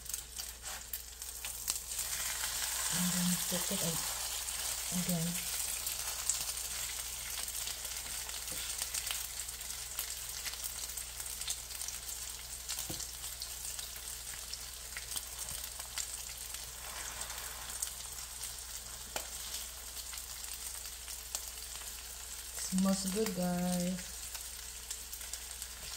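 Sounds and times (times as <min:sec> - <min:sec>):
omelette sizzling in skillet: 0:00.0 - 0:25.9.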